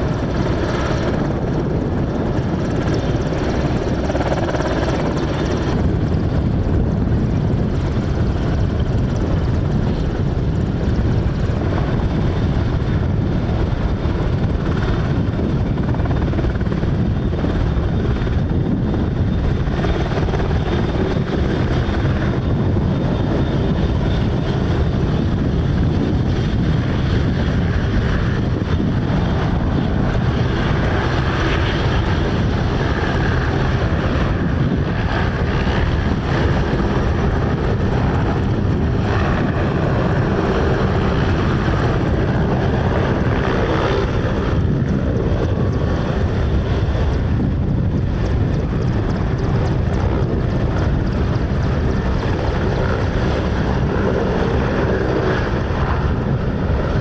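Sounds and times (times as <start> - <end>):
helicopter turbine and rotor: 0.0 - 57.0.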